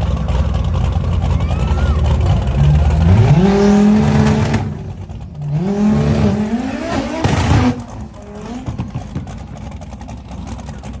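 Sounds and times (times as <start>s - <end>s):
engine revving: 1.3s - 11.0s.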